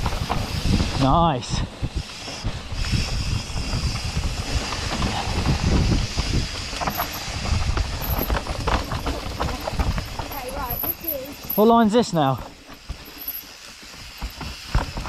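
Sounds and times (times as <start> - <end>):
bike frame and chain rattling: 0.0 - 15.0
tyres rumbling over rough ground: 0.0 - 15.0.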